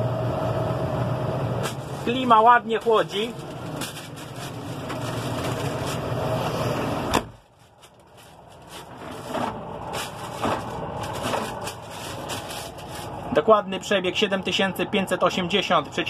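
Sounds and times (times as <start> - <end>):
air vent hissing: 0.0 - 16.0.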